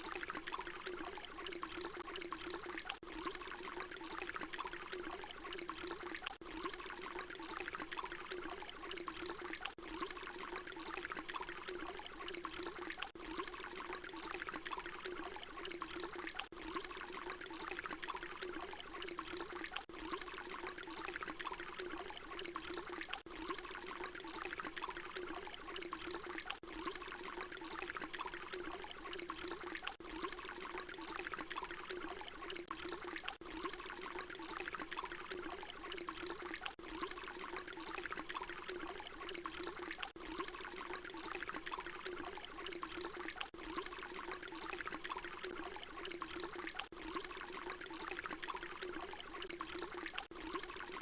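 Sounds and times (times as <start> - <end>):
water pouring in a stream: 0.0 - 51.0.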